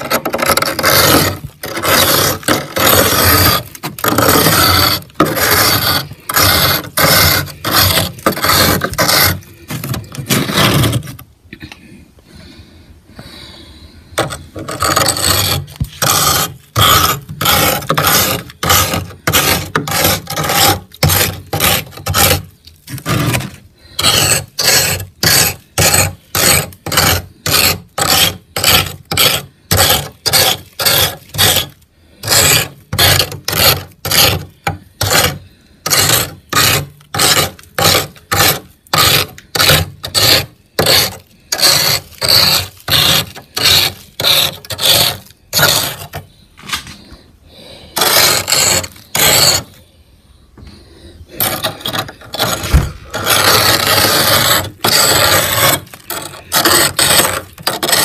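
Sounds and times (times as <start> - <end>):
frost being scraped: 0.0 - 11.2, 14.1 - 49.8, 51.3 - 58.0.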